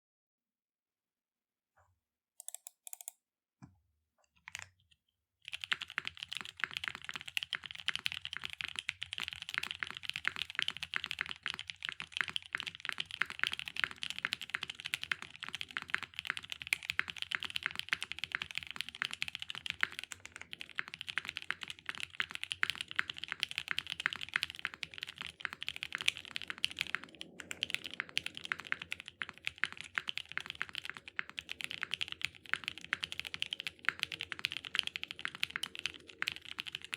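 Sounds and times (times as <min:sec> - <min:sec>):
mechanical keyboard typing: 0:02.4 - 0:03.2, 0:04.4 - 0:04.8, 0:05.5 - 0:36.9.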